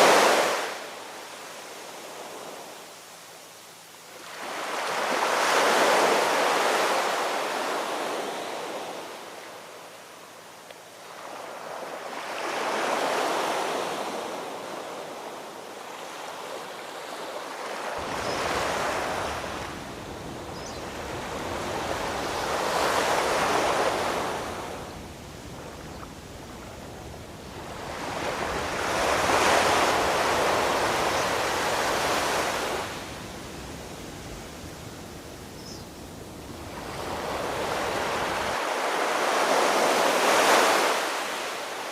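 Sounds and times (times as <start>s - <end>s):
waves breaking on shore: 0.0s - 3.0s, 4.1s - 9.8s, 10.9s - 41.9s.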